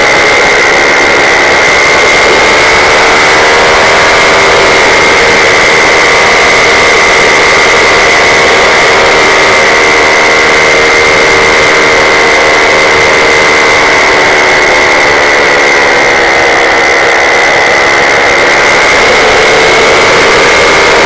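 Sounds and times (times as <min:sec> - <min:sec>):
high-pitched propeller whine: 0:00.0 - 0:21.0
paramotor engine drone: 0:00.0 - 0:21.0.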